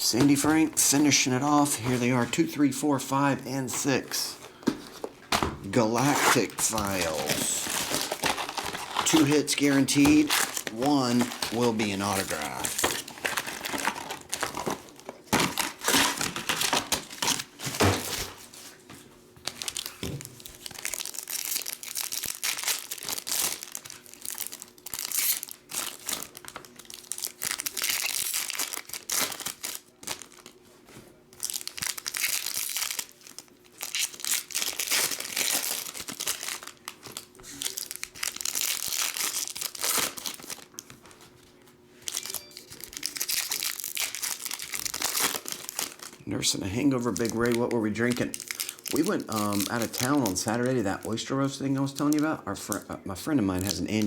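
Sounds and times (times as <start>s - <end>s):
card wrappers crinkling and tearing: 0.0s - 18.5s, 19.4s - 54.0s.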